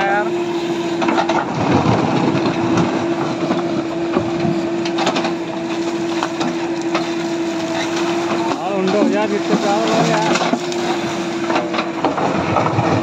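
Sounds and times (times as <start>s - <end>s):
diesel engine whining under load: 0.0s - 13.0s.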